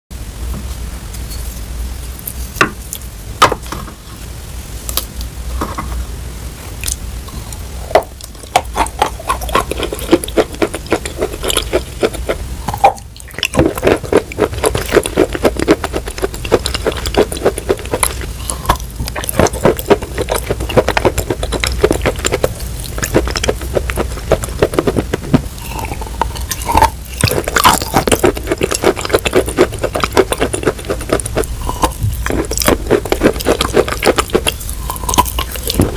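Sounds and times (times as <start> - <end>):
crunching clay chewing: 6.8 - 35.9
wet sticky mouth sounds: 6.8 - 35.9.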